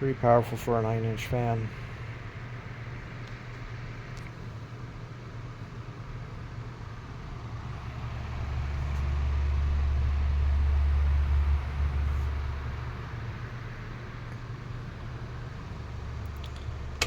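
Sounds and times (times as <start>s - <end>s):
table fan running: 0.0s - 17.0s.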